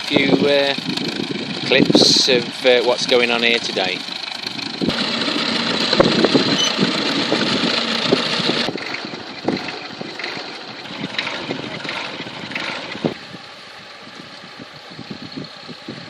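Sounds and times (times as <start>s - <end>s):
vintage stationary engines running: 0.0s - 16.0s
wind gusting on microphone: 0.0s - 16.0s.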